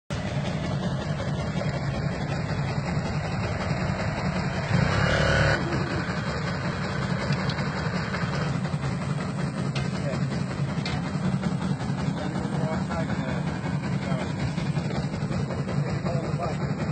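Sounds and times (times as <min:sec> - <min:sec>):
vehicle engine running roughly: 0:00.1 - 0:16.9.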